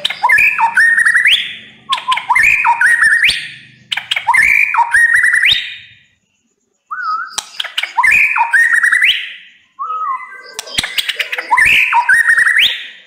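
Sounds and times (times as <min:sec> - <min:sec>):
bird singing whistled phrases: 0:00.0 - 0:06.0, 0:06.9 - 0:13.0.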